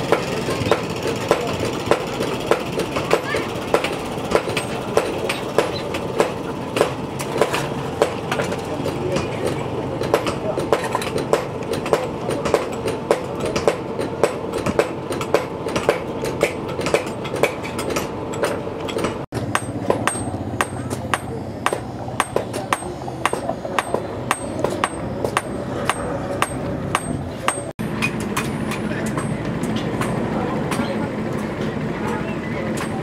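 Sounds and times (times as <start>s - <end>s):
constant background noise: 0.0s - 33.0s
hammer striking steel on anvil: 0.0s - 33.0s.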